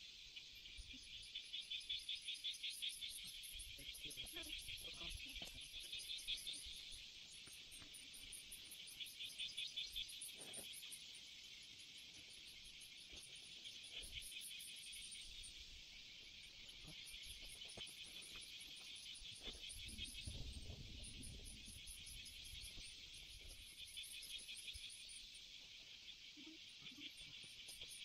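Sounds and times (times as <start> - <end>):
higher pulsing insect call: 0.0 - 28.0.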